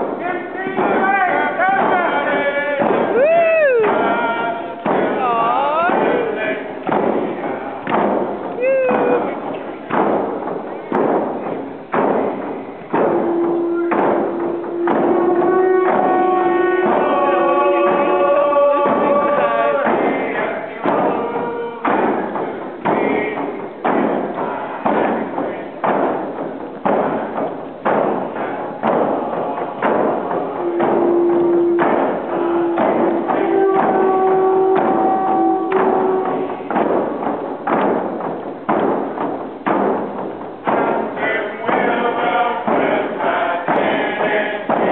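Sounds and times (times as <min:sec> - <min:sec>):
group singing: 0:00.0 - 0:38.0, 0:40.6 - 0:44.9
hand drums beating: 0:00.0 - 0:44.9.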